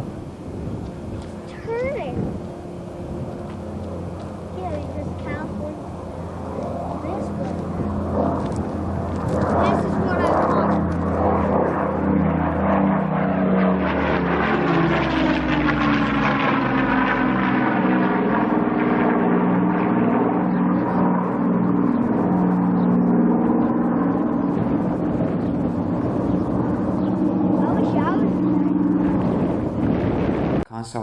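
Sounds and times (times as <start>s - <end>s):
propeller plane engines flying past: 0.0s - 30.6s.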